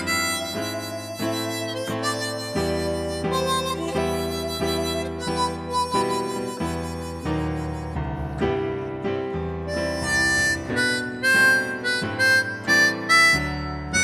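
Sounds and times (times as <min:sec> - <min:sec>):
harmonica melody: 0:00.0 - 0:14.0
keyboard accompaniment: 0:00.0 - 0:14.0.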